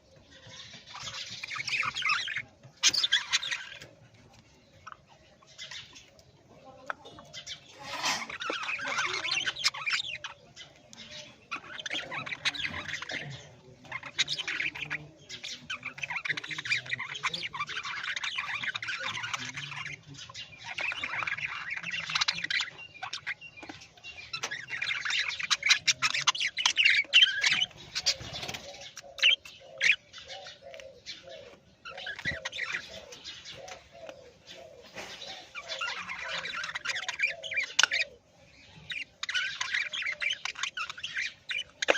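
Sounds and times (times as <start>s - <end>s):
parrots chattering and squawking: 0.0s - 41.9s.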